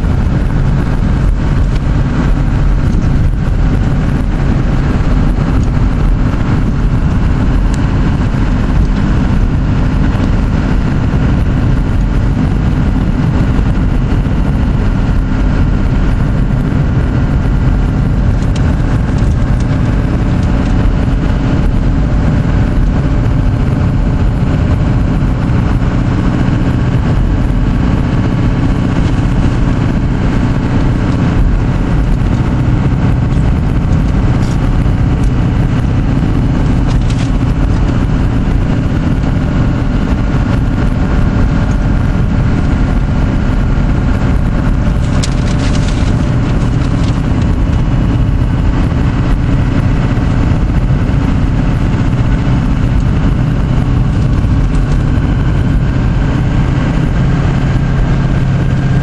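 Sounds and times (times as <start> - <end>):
car cabin engine and road rumble: 0.0 - 59.0
tyre noise on wet road: 0.0 - 59.0.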